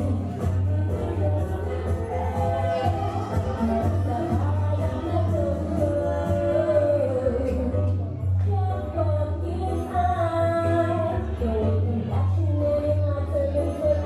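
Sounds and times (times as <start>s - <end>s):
person singing: 0.0s - 14.0s
reggae bassline: 0.0s - 14.0s.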